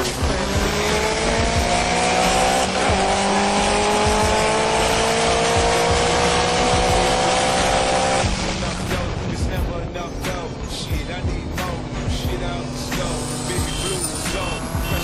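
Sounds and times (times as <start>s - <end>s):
car engine at full throttle: 0.0s - 15.0s
wind and road noise: 0.0s - 15.0s.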